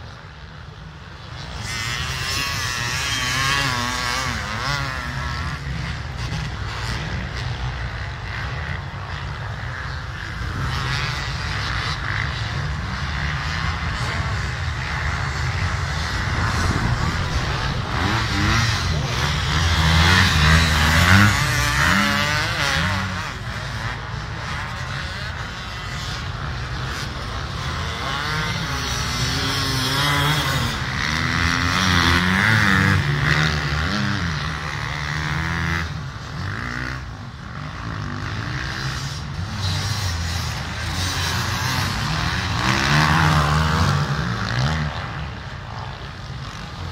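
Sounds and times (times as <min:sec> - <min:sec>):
race motorcycle engines revving: 0:00.0 - 0:46.9.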